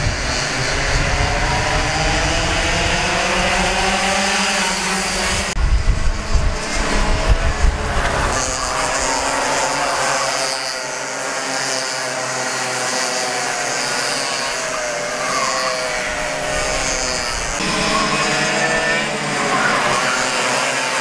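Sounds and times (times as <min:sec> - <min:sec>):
kart engines revving: 0:00.0 - 0:21.0.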